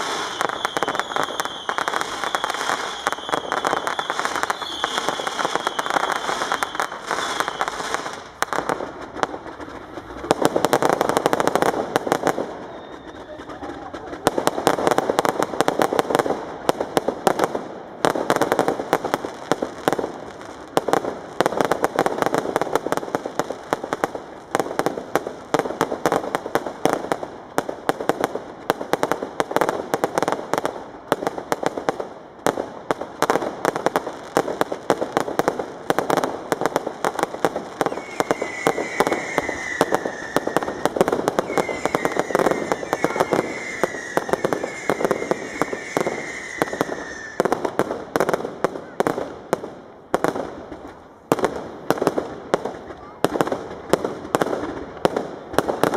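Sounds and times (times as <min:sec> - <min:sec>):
fireworks bangs and crackling: 0:00.0 - 0:55.9
fireworks whistling: 0:00.0 - 0:55.9.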